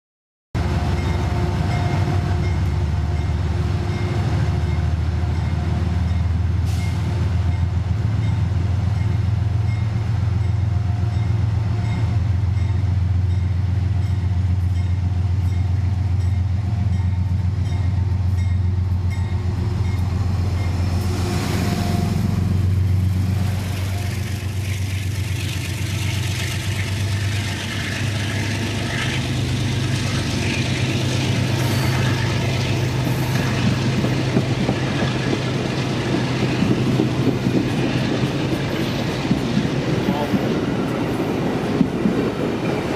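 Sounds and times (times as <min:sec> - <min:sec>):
diesel locomotive low drone: 0:00.6 - 0:42.9
train wheels on rails: 0:00.6 - 0:42.9.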